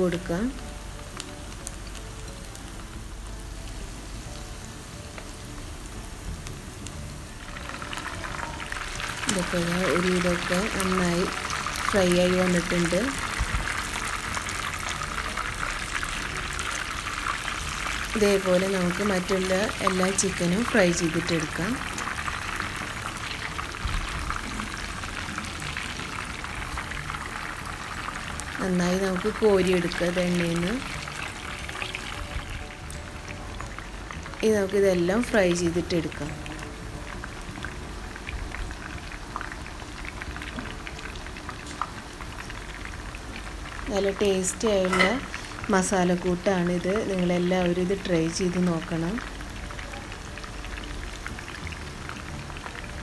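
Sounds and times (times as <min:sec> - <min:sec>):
chicken frying in oil: 0:00.0 - 0:53.0.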